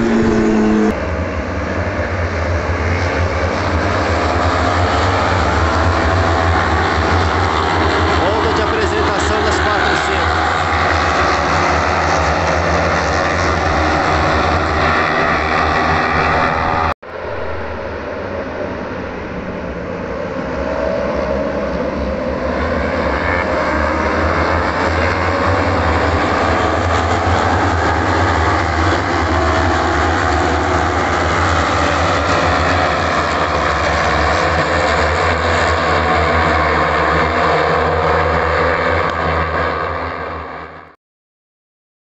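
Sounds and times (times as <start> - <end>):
superbike engines howling: 0.0 - 40.7.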